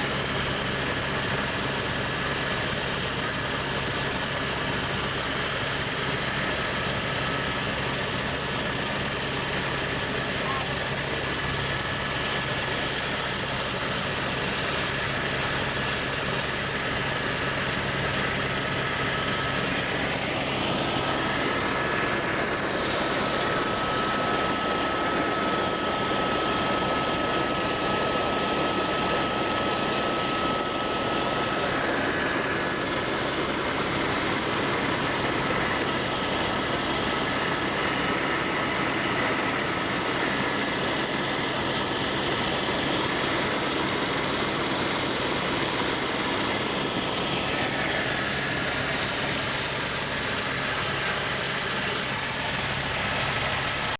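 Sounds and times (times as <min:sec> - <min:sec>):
light aircraft engine drone: 0:00.0 - 0:53.9.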